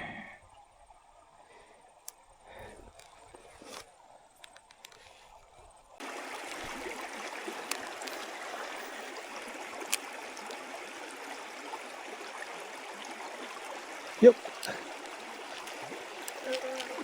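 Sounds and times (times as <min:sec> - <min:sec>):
creek water rushing: 0:01.2 - 0:17.0.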